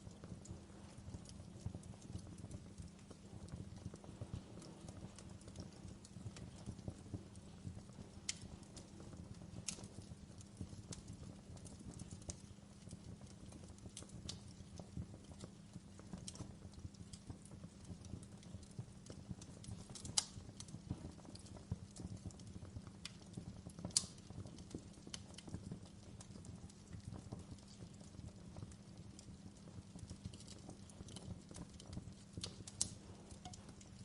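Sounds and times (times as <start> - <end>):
campfire pops and snaps: 0.0 - 34.0
low rush of burning: 0.0 - 34.0.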